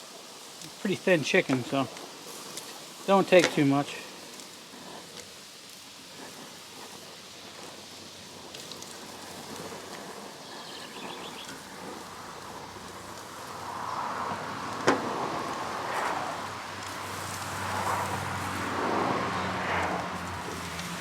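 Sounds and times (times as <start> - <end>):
hiss: 0.0 - 21.0.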